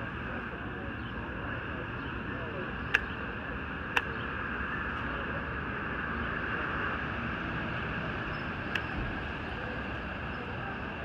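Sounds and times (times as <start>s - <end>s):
city background noise: 0.0s - 11.0s.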